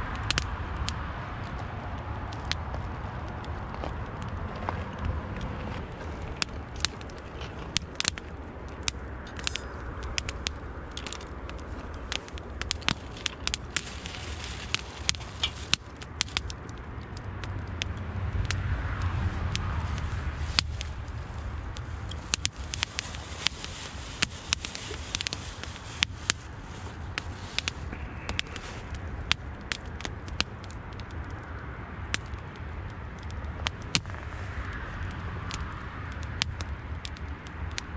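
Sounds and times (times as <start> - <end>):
wood fire crackling: 0.1 - 37.9.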